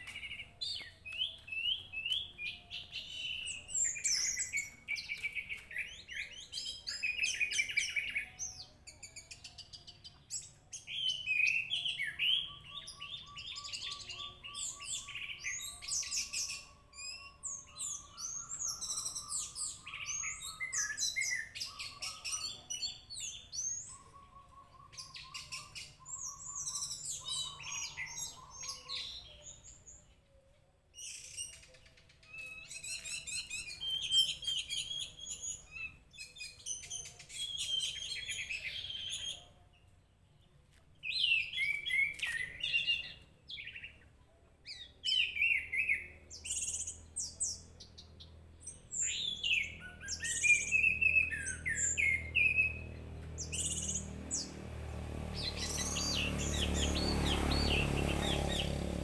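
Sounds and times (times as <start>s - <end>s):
thrush singing whistles and trills: 0.0s - 30.1s, 31.0s - 39.6s, 41.0s - 44.0s, 44.8s - 59.0s.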